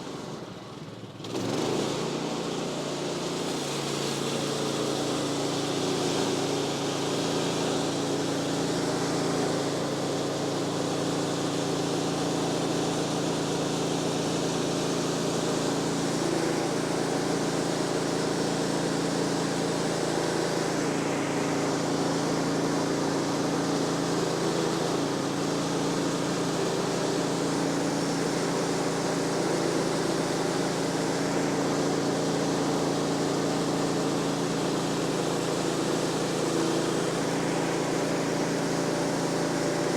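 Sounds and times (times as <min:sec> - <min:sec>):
band sawmill cutting log: 0:03.6 - 0:39.9.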